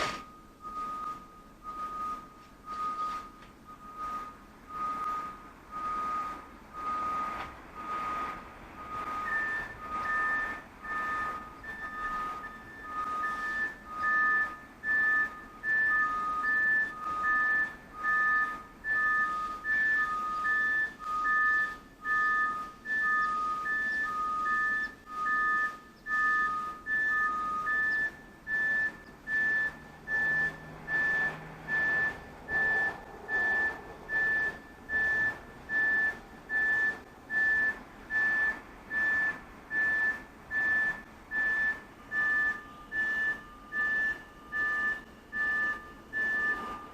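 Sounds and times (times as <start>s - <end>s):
high-pitched backup alarm beeping: 0.0s - 46.9s
low-pitched backup alarm beeping: 0.0s - 46.9s.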